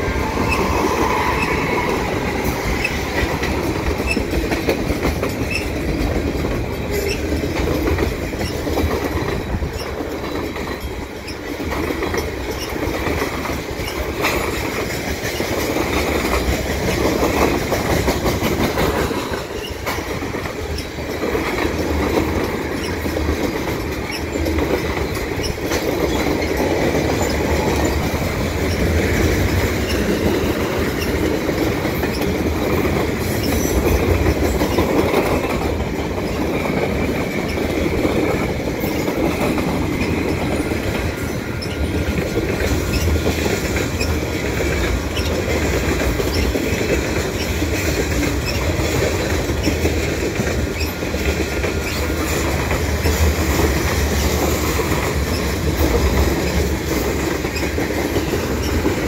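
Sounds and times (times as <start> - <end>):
freight train wheels rumbling: 0.0 - 59.0
wheels clacking over rail joints: 0.0 - 59.0.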